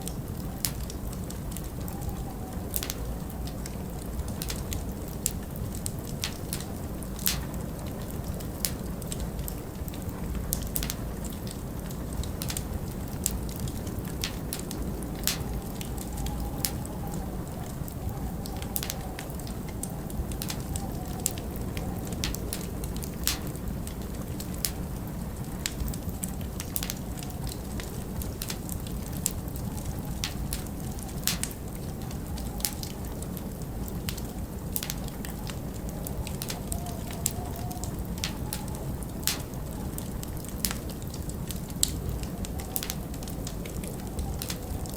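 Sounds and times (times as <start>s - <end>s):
log fire crackling and popping: 0.0s - 44.9s
low rush of wind: 0.0s - 44.9s.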